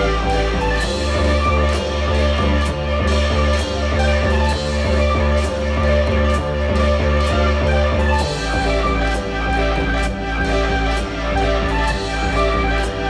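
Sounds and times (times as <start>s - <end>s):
deep sustained bass note: 0.0s - 13.0s
guitar: 0.0s - 13.0s.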